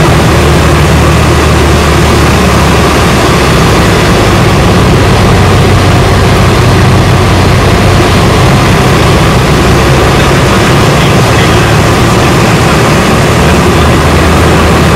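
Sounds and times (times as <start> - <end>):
light aircraft engine droning: 0.0 - 14.9.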